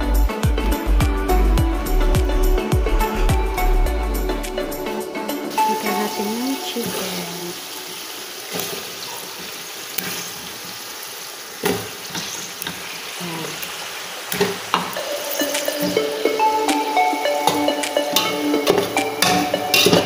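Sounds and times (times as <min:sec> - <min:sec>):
pot hissing: 0:00.0 - 0:20.0.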